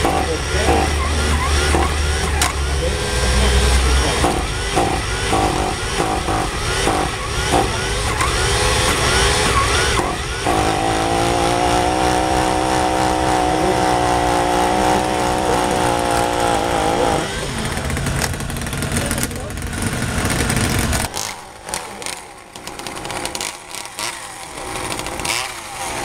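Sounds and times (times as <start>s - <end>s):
small model engine revving: 0.0s - 26.0s.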